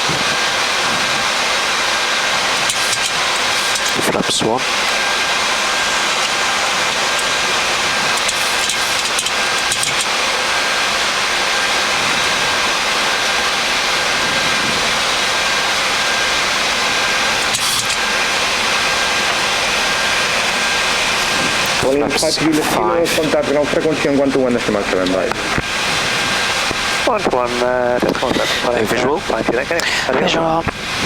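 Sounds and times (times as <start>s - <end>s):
airflow and air-conditioning hiss: 0.0s - 31.0s
faint steady whine: 0.0s - 31.0s.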